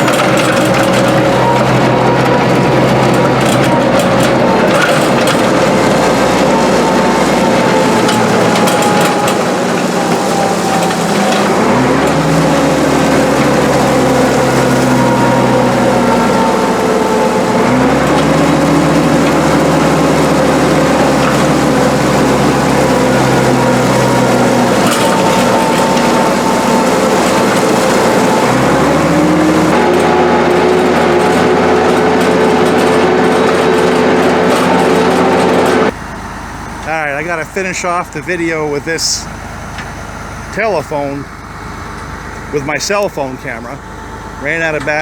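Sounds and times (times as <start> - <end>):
tractor diesel engine under load: 0.0 - 45.0.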